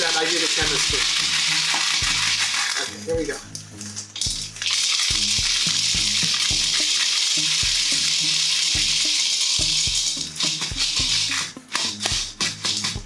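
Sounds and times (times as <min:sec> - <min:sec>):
beans pouring through funnel: 0:00.0 - 0:13.0.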